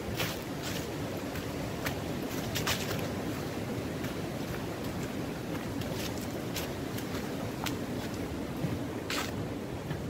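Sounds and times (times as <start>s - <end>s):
footsteps on leafy wooden boards: 0.0s - 10.0s
wind rumble on microphone: 0.0s - 10.0s.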